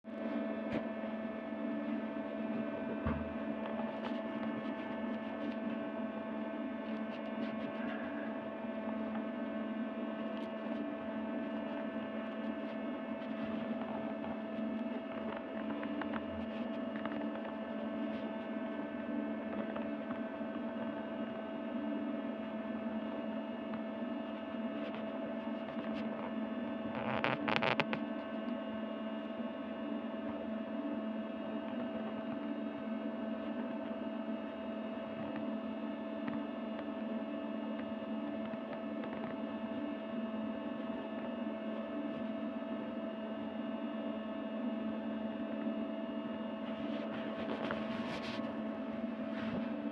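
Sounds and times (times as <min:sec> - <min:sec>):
steady hum of fixed tones: 0:00.1 - 0:49.9.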